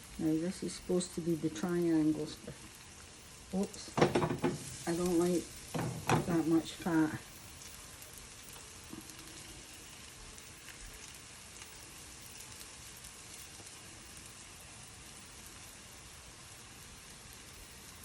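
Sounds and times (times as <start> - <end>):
food sizzling in frying pan: 0.0 - 18.0.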